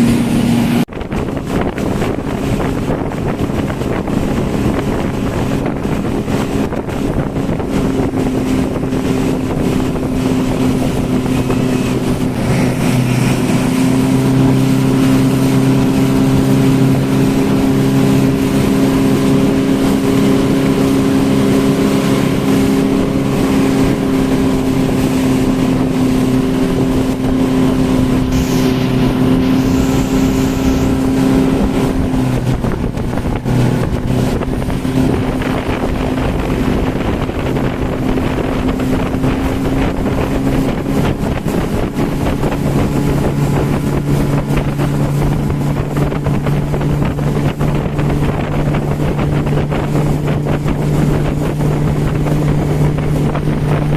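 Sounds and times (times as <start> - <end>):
motorboat engine running: 0.0 - 53.9
wind buffeting microphone: 0.0 - 53.9.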